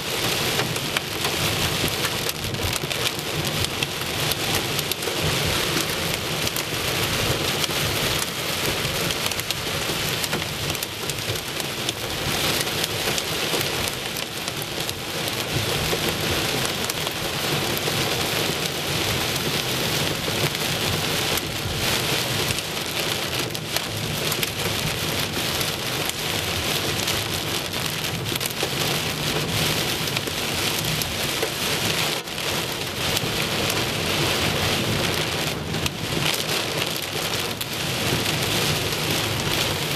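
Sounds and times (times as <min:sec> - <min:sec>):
rain and hail on car roof: 0:00.0 - 0:39.9.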